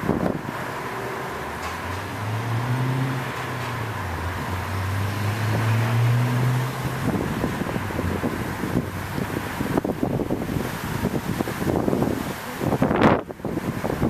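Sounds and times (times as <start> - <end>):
vehicle engine humming: 0.0 - 14.0
wind buffeting microphone: 0.0 - 14.0
wind hiss: 0.0 - 14.0.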